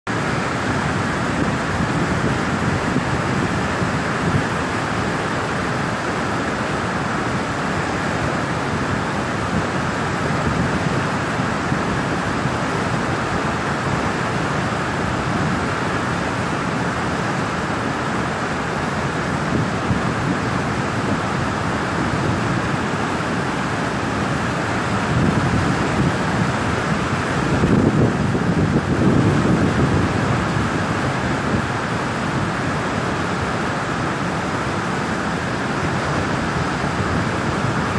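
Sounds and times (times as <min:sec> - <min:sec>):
floodwater rushing through sluice gates: 0:00.1 - 0:37.9.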